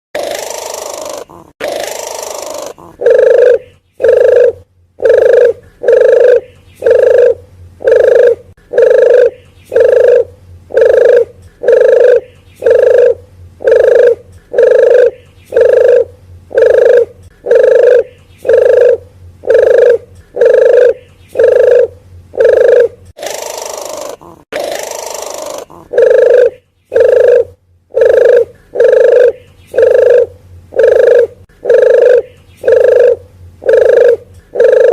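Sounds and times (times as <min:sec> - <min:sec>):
dove hooting coo call: 0:00.2 - 0:34.9.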